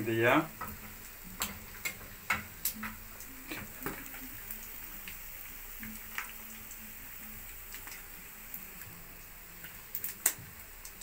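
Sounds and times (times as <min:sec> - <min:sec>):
faint steady hiss: 0:00.0 - 0:11.0
hot oil popping: 0:00.0 - 0:11.0.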